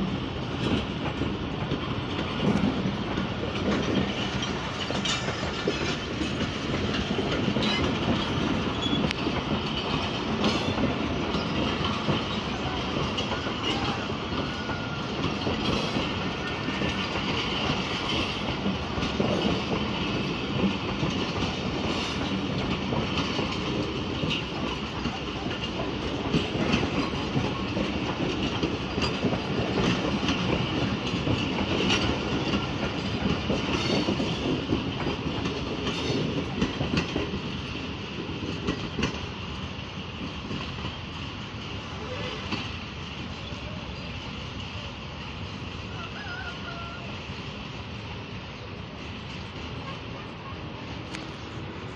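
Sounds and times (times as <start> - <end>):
train wheels clattering over rail joints: 0.0 - 51.9.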